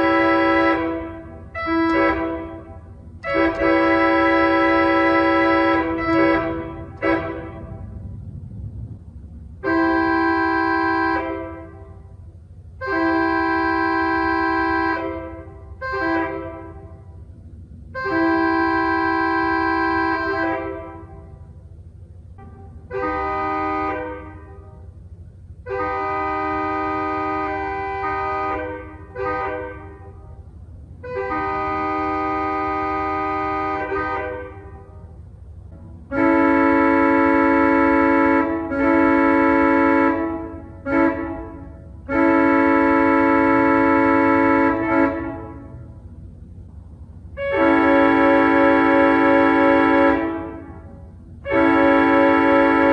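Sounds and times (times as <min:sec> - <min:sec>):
pipe organ chords: 0:00.0 - 0:08.2, 0:09.6 - 0:52.9.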